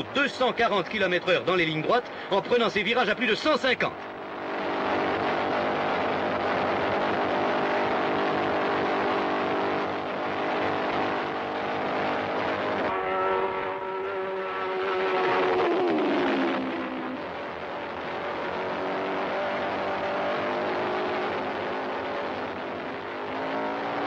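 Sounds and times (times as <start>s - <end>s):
racing motorcycle engine at high revs: 4.0s - 24.0s.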